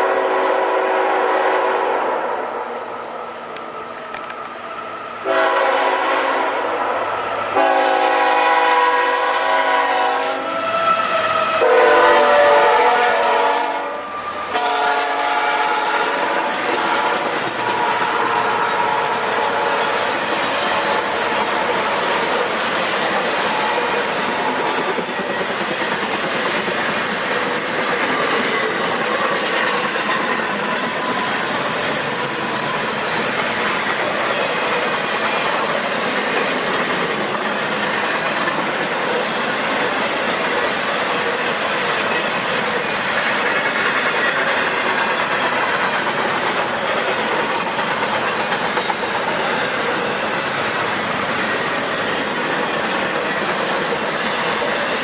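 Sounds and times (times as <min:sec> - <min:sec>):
freight train wheels clacking: 0:00.0 - 0:01.6, 0:02.6 - 0:55.0.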